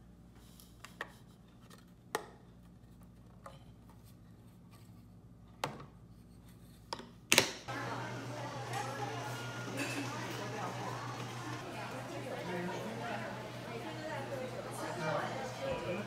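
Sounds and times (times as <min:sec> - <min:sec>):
room noise with low hum: 0:00.0 - 0:16.0.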